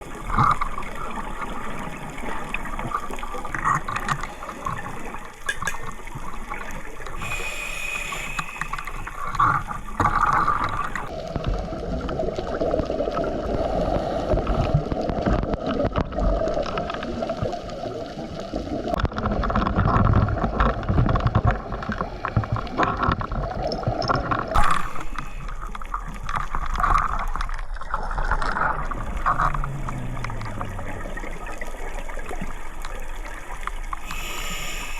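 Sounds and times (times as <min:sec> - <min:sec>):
underwater air bubbles gurgling: 0:00.0 - 0:34.9.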